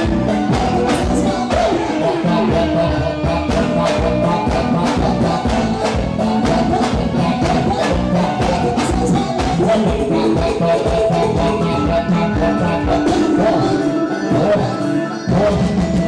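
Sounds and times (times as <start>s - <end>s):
drum and percussion beat: 0.0s - 16.0s
man singing into microphone: 0.0s - 16.0s.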